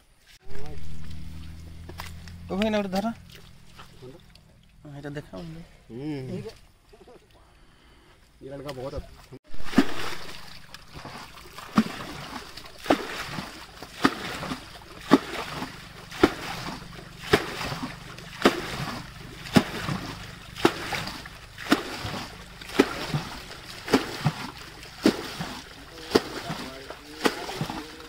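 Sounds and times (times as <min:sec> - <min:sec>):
water splashing from bucket: 0:00.4 - 0:04.8, 0:08.8 - 0:28.0.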